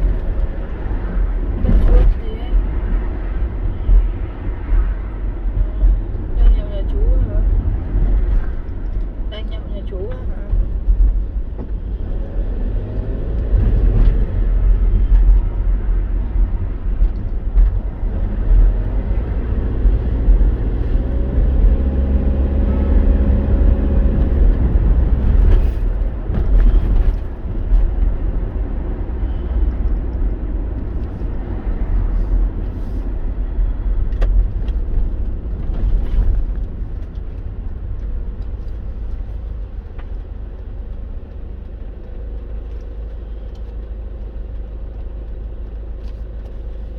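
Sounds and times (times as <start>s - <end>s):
vehicle engine and tyres rumbling: 0.0s - 46.9s.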